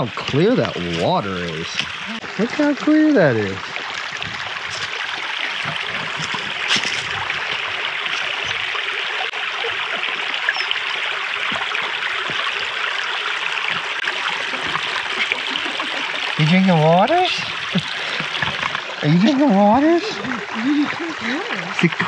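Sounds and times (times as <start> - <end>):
creek flowing over rocks: 0.0 - 22.0.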